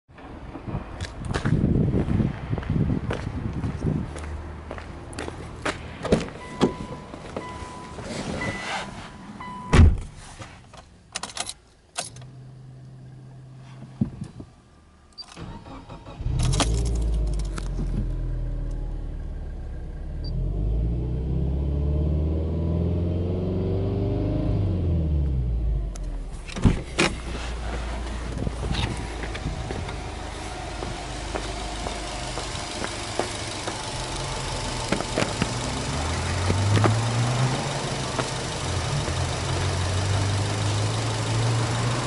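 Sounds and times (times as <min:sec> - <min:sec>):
car engine cranking and idling: 0:02.6 - 0:42.0.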